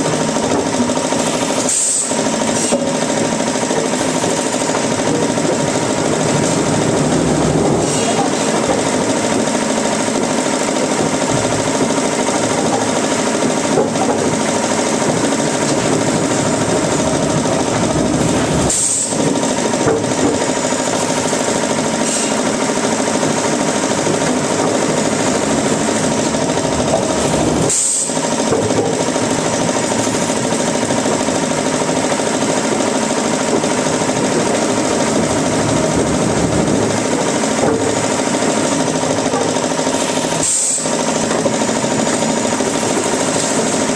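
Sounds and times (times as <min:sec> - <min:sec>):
woodworking machinery running: 0:00.0 - 0:43.9.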